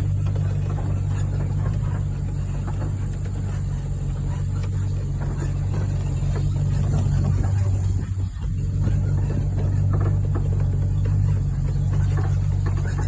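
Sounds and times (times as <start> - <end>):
faint knocks and rattles: 0.0 - 13.0
vehicle engine running: 0.0 - 13.0.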